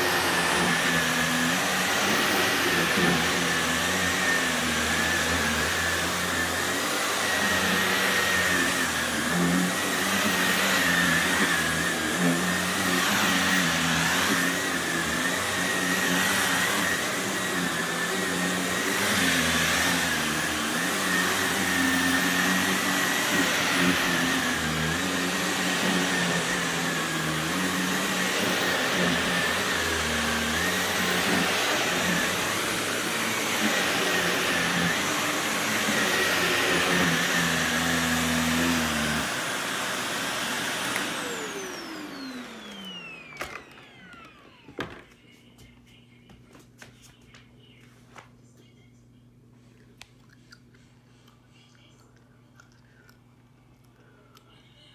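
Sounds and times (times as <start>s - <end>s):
vacuum cleaner motor whine: 0.0s - 46.1s.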